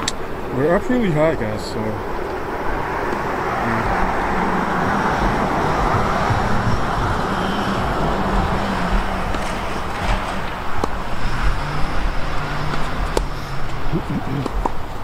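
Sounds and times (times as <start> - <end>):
car driving past: 0.3 - 15.0.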